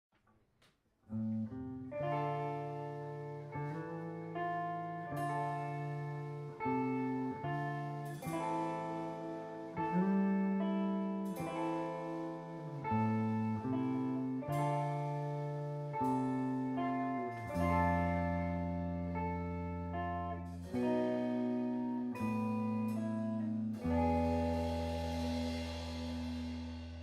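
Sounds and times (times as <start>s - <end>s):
sustained guitar chords: 1.2s - 27.0s
live band playing slow song: 2.0s - 27.0s.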